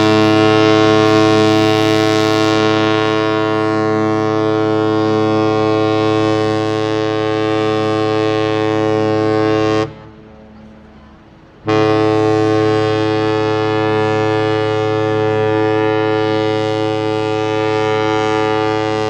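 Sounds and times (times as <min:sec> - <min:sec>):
ship's horn long deep blast: 0:00.0 - 0:19.0.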